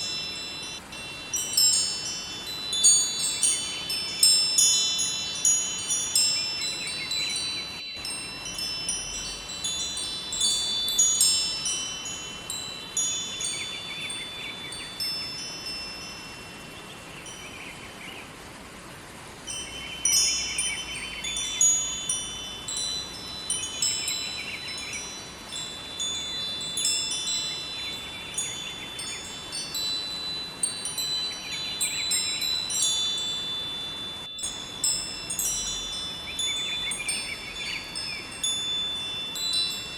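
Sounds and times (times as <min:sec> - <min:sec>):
wind chimes ringing: 0:00.0 - 0:18.1, 0:19.3 - 0:39.9
river rushing: 0:00.0 - 0:39.9.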